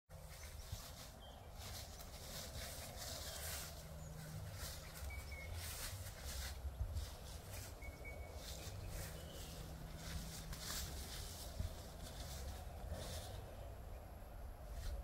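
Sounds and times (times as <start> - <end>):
rustling: 0.1 - 13.8, 14.6 - 15.0
wind rumble on microphone: 0.2 - 15.0.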